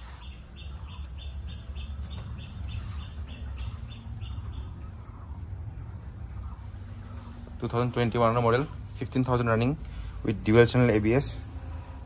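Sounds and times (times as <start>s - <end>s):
steady low rumble: 0.5s - 12.0s.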